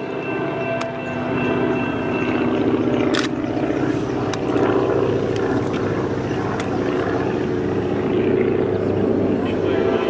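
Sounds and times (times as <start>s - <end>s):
locomotive diesel engines droning: 0.0s - 10.0s.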